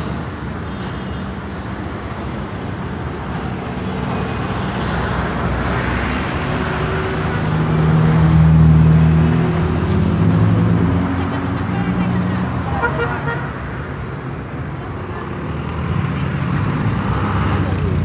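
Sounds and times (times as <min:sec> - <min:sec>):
street traffic: 0:00.0 - 0:18.0
vehicle engine hum: 0:01.6 - 0:18.0.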